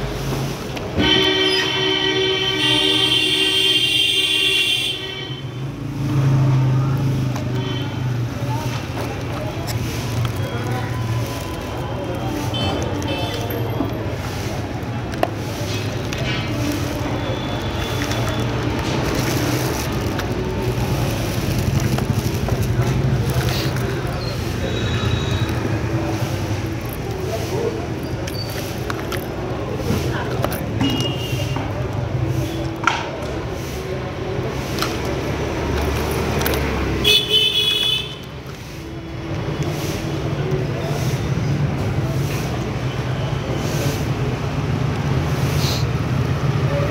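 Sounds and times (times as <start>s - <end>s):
road traffic hum: 0.0s - 46.9s.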